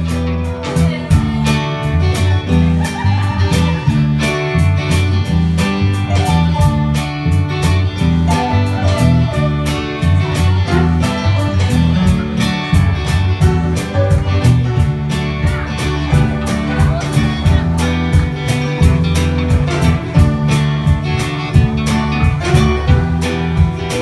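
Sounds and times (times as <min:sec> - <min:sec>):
acoustic guitars: 0:00.0 - 0:24.0
bass guitar line: 0:00.0 - 0:24.0
drum kit steady beat: 0:00.0 - 0:24.0.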